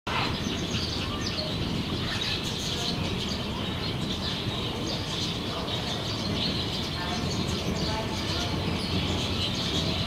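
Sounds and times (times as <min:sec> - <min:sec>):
low outdoor background noise: 0:00.1 - 0:10.0
small birds chirping: 0:00.1 - 0:10.0.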